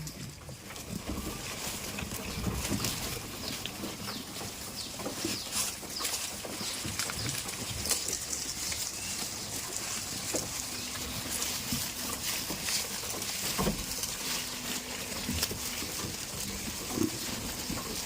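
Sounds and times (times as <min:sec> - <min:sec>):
goats moving and feeding: 0:00.0 - 0:18.0
small clicks rustles and patters: 0:00.0 - 0:18.0.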